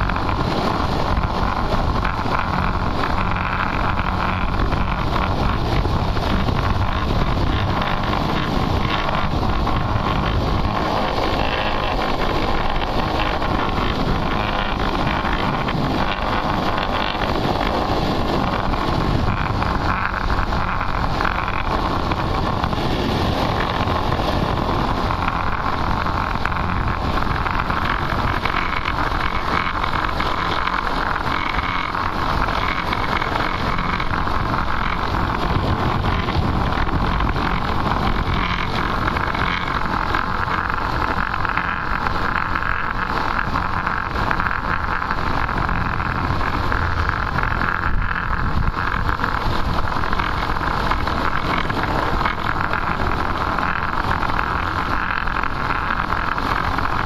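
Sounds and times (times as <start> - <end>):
longboard wheels rolling on asphalt: 0.0 - 57.0
wind rushing over microphone: 0.0 - 57.0.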